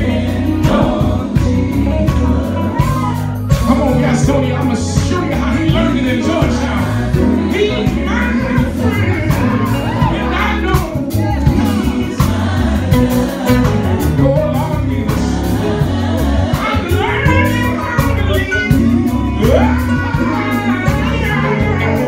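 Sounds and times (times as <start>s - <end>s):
electric guitar: 0.0s - 22.0s
gospel group singing: 0.0s - 22.0s
heavy bass line: 0.0s - 22.0s
keyboard: 0.0s - 22.0s.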